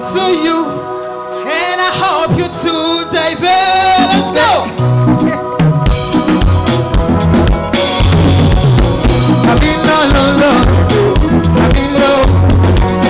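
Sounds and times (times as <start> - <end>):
upbeat instrumental band music: 0.0 - 13.0.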